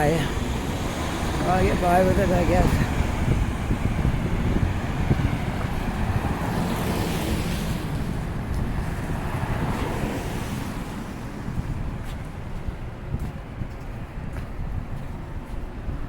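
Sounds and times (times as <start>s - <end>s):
cars passing: 0.0s - 16.0s
wind rumble on microphone: 0.0s - 16.0s.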